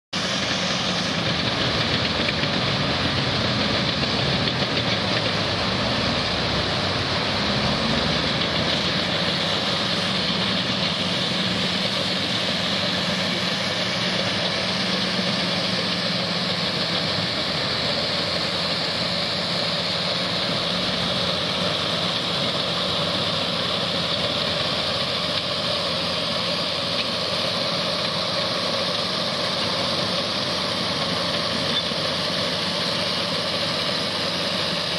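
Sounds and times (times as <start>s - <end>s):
excavator diesel engine drone: 0.2s - 34.9s
floodwater rushing: 0.2s - 34.9s.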